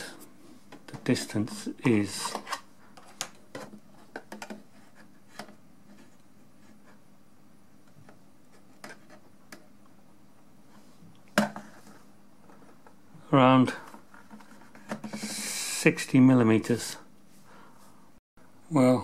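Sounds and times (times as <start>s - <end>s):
low room noise: 0.0s - 19.0s.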